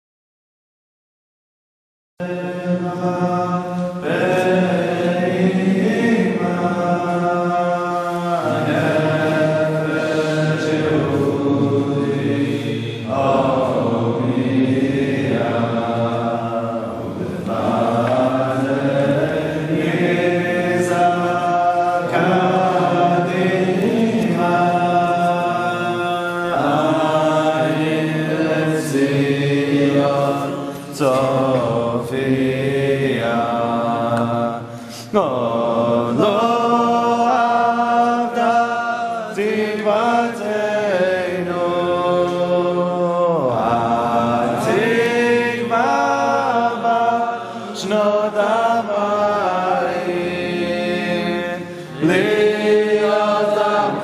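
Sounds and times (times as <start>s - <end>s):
person chanting a prayer: 2.2s - 54.0s.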